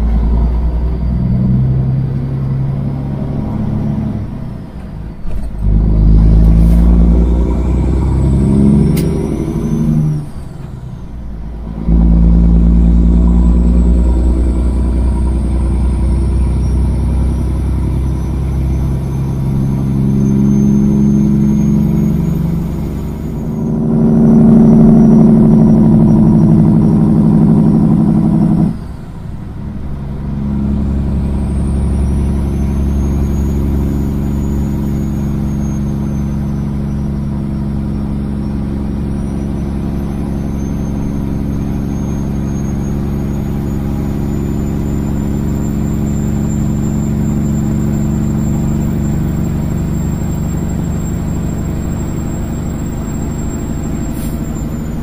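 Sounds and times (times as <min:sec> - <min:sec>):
truck diesel engine: 0:00.0 - 0:55.0.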